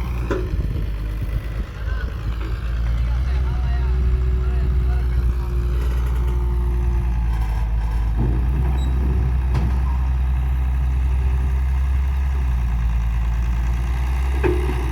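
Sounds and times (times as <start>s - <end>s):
diesel engine idling: 0.0s - 14.9s
engine clatter: 0.0s - 14.9s.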